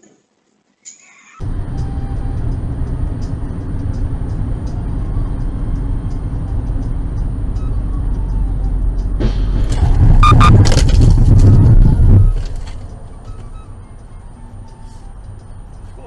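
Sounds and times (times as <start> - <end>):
car engine and road rumble: 1.4 - 16.0.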